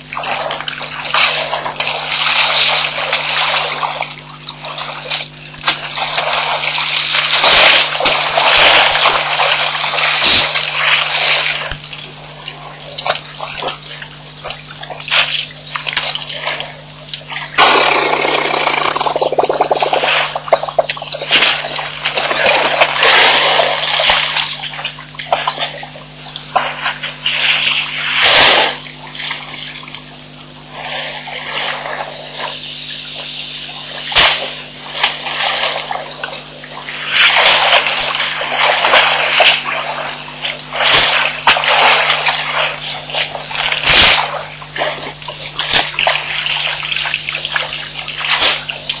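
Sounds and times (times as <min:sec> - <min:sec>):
sharp water slaps: 0:00.0 - 0:30.5, 0:34.0 - 0:49.0
elephants splashing in water: 0:00.0 - 0:49.0
steady low hum: 0:00.0 - 0:49.0.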